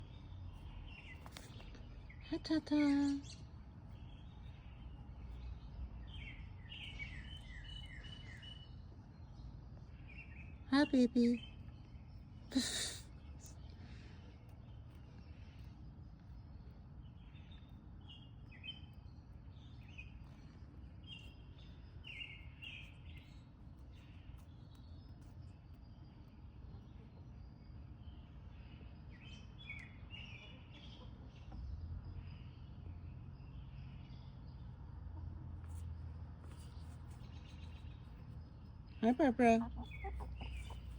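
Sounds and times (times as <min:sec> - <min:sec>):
bird chirping: 0:00.0 - 0:40.9
low background rumble: 0:00.0 - 0:40.9.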